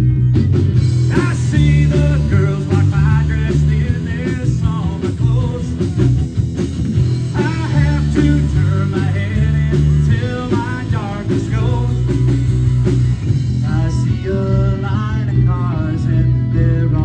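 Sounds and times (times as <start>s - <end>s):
drums and cymbal beats: 0.0s - 17.0s
electric bass: 0.0s - 17.0s
electric guitar: 0.0s - 17.0s
keyboard: 0.0s - 17.0s
man singing lead: 1.0s - 6.4s, 7.1s - 17.0s.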